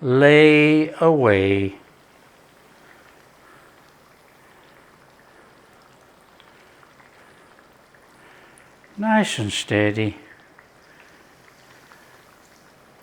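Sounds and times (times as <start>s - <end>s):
chicken frying in oil: 0.4s - 13.0s.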